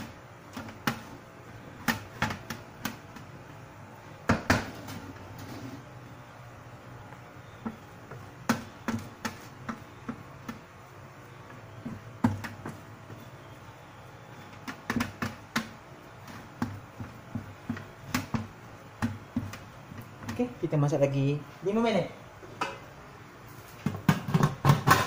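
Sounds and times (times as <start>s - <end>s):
sticky rice being stirred: 0.0s - 21.8s
steady low hum: 0.0s - 24.6s.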